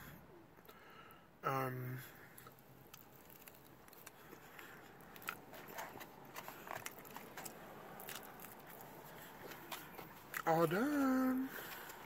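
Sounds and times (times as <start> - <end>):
person chewing food: 2.3 - 12.0.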